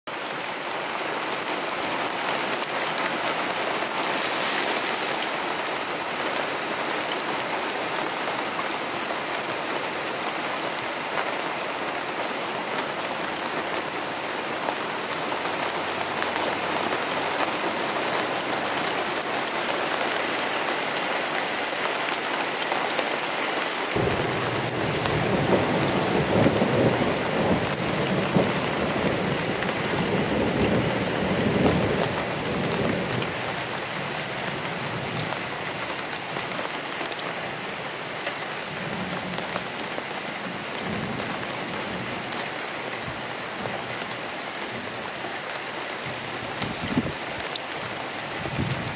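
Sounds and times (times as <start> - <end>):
rain on a camper: 0.0 - 48.9.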